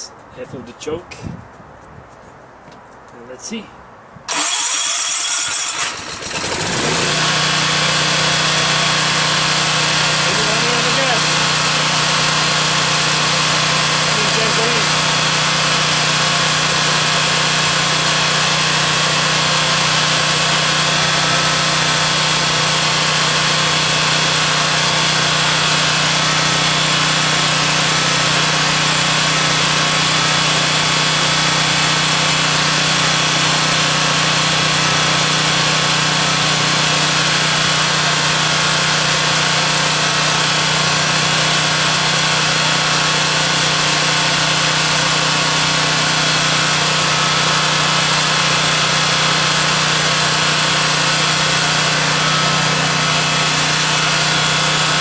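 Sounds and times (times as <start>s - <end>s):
generator engine running: 4.3s - 55.0s.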